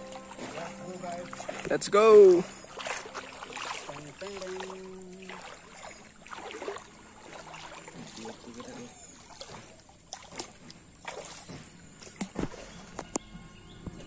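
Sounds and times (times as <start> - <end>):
sharp water splashes: 0.0 - 13.0
water sloshing around wading legs: 0.0 - 13.1.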